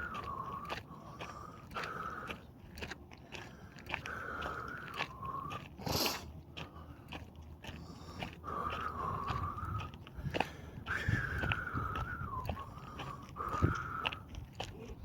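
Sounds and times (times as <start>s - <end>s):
footsteps crunching on dirt trail: 0.0s - 15.0s.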